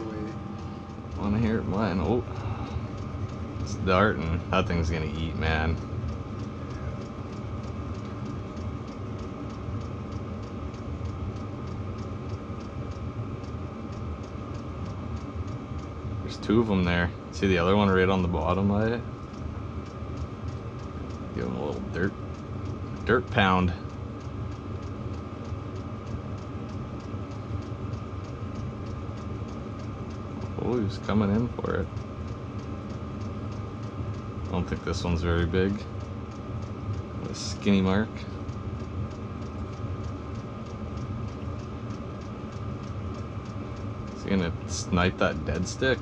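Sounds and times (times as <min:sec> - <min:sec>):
fast even ticking: 0:00.0 - 0:46.0
low mechanical hum: 0:00.0 - 0:46.0.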